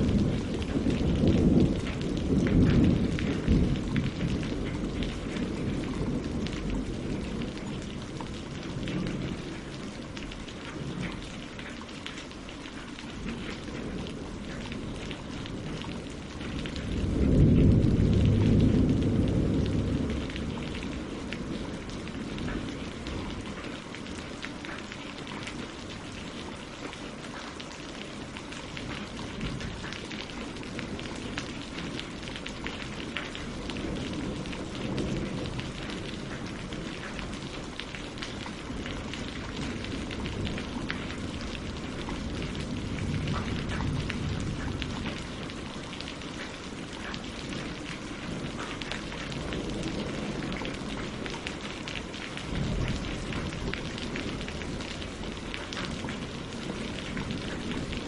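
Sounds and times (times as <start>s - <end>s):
rain on water and leaves: 0.0s - 58.0s.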